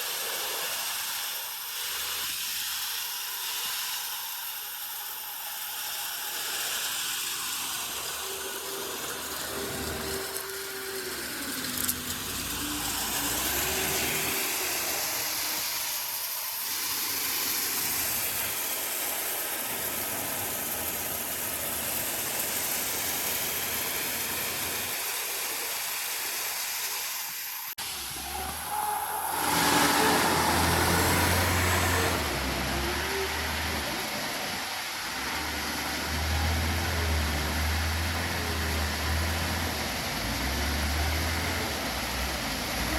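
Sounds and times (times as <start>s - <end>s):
hissing machinery noise: 0.0s - 42.9s.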